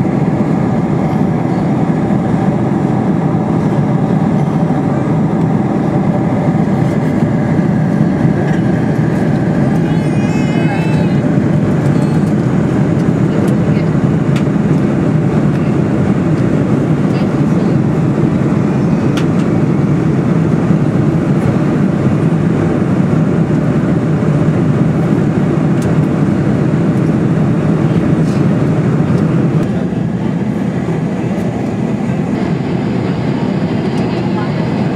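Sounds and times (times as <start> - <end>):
airplane cabin engine rumble: 0.0 - 34.9.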